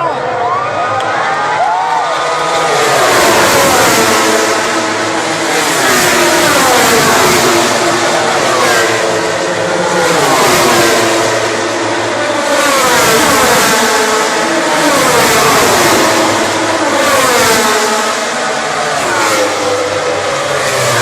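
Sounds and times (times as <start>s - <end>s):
racing motorcycles passing by: 0.0s - 21.0s.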